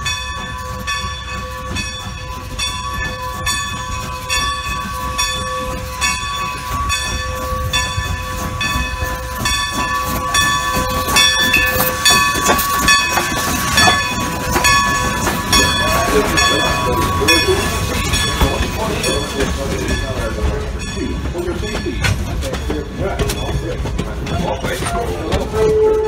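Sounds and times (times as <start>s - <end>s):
locomotive bell ringing: 0.0s - 26.0s
train rumble: 0.0s - 26.0s.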